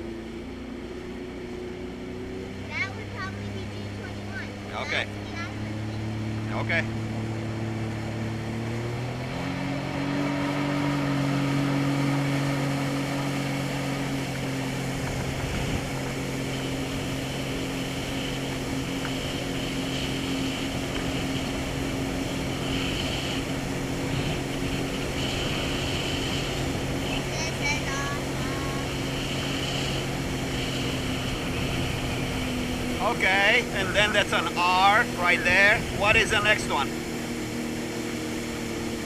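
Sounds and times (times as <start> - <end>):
jet ski engine: 0.0 - 39.0
steady rushing noise: 0.0 - 39.0.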